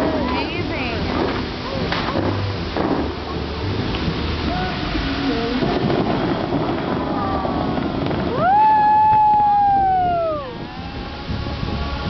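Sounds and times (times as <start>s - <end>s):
fountain jets spraying: 0.0s - 12.0s
fountain show music: 0.0s - 12.0s.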